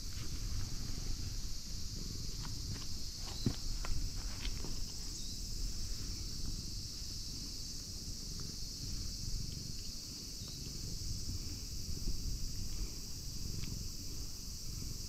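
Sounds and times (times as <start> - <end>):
high insect drone: 0.0 - 15.0
low uneven rumble: 0.0 - 15.0.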